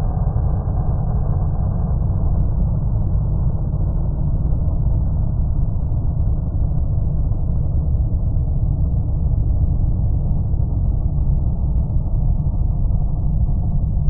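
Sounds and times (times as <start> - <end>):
muffled low rumble: 0.0 - 14.0.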